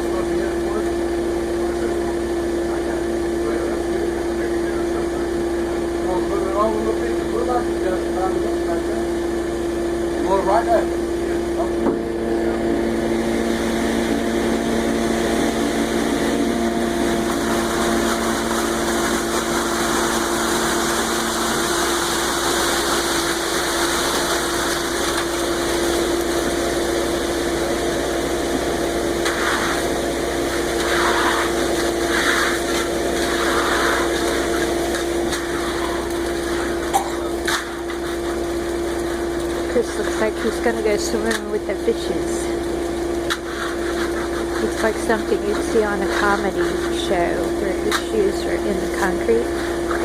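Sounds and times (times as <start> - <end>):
concrete mixer truck running: 0.0 - 50.0
wet concrete rushing down chute: 0.0 - 50.0.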